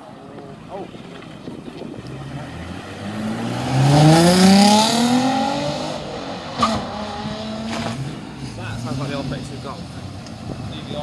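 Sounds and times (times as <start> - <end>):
car engine revving: 0.8 - 11.0.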